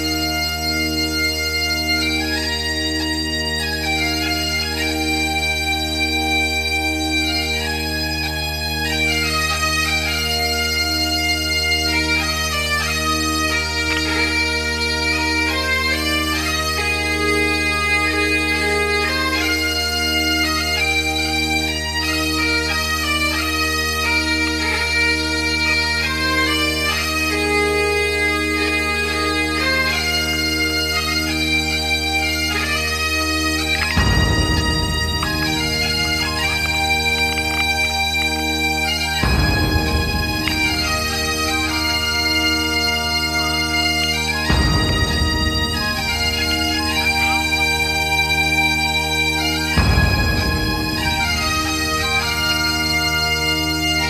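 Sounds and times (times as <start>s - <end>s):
bagpipe drones: 0.0s - 54.0s
bagpipe melody: 0.0s - 54.0s.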